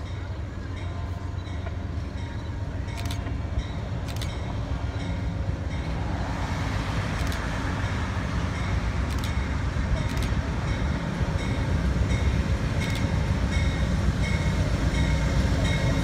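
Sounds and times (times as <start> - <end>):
diesel locomotive rumble: 0.0 - 16.0
train wheel and rail noise: 0.0 - 16.0.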